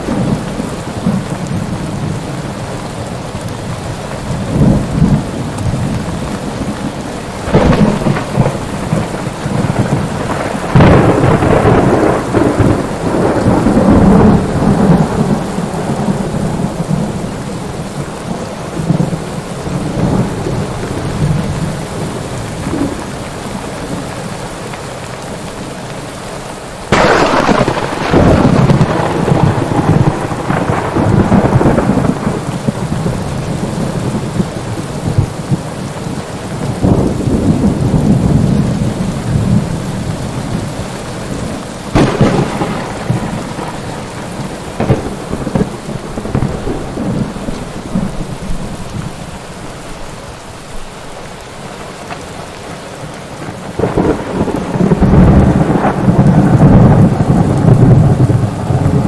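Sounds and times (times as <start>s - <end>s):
thunder cracking and rumbling: 0.0s - 2.6s, 3.4s - 24.1s, 26.9s - 49.5s, 53.4s - 59.0s
steady rain: 0.0s - 59.0s.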